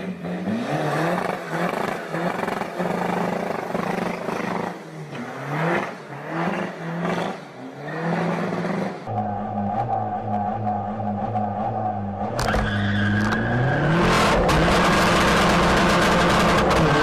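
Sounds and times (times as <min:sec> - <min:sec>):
diesel car accelerating hard: 0:00.0 - 0:17.0.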